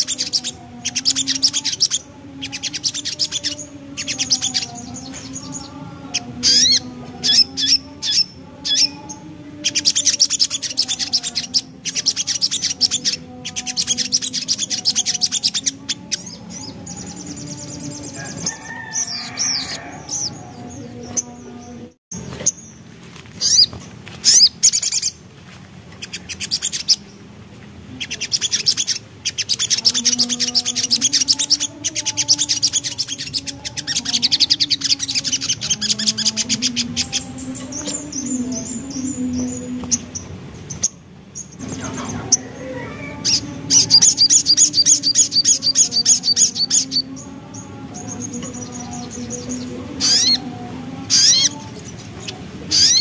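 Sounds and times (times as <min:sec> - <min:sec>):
bird chattering song: 0:00.0 - 0:25.2, 0:25.9 - 0:27.3, 0:27.9 - 0:53.0.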